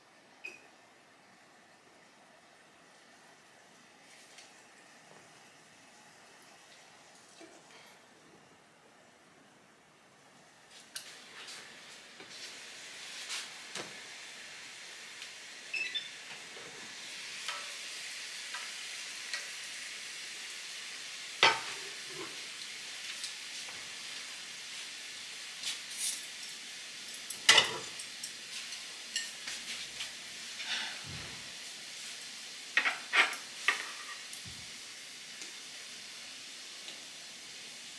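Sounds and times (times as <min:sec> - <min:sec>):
food sizzling in pan: 0:00.0 - 0:08.0, 0:10.6 - 0:37.9.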